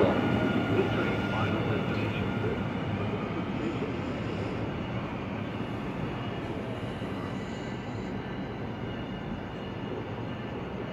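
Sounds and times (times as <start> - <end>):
light rail train pulling away: 0.0 - 10.9.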